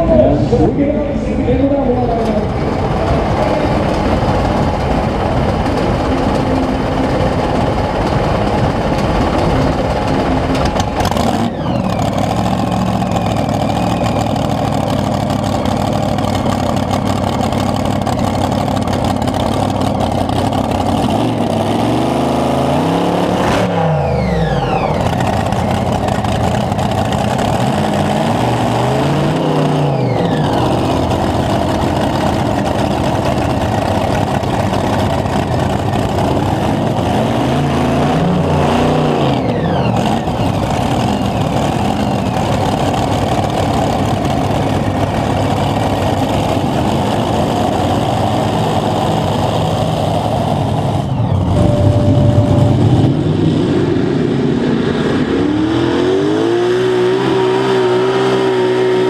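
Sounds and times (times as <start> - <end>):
engine running at high revs: 0.0 - 59.0.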